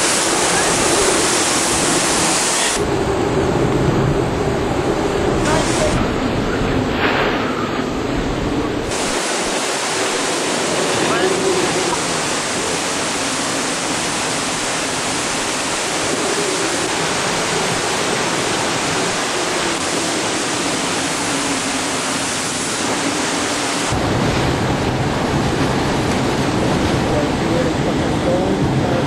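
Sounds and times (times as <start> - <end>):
driving rain: 0.0 - 29.0
hurricane wind: 0.0 - 29.0.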